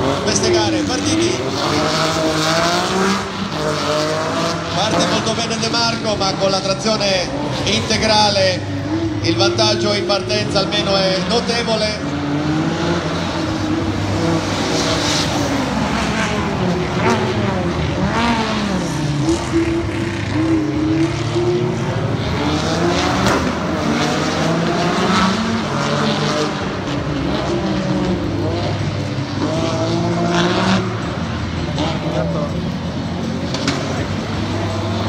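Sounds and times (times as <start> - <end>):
race car engines revving: 0.0 - 35.0.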